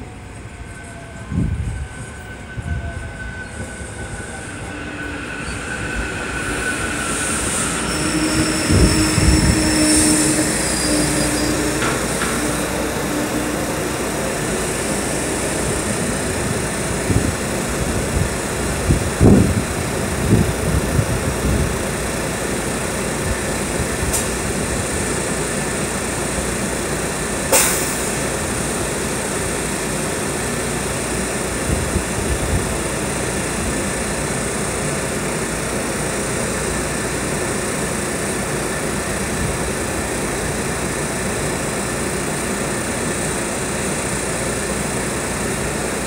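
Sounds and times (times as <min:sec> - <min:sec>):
railcar ventilation blowers running: 0:03.6 - 0:46.0.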